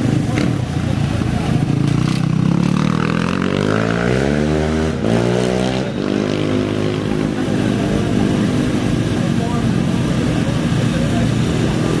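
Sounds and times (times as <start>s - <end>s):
engines idling: 0.0s - 3.6s, 5.8s - 12.0s
race vehicle engine accelerating: 0.0s - 12.0s.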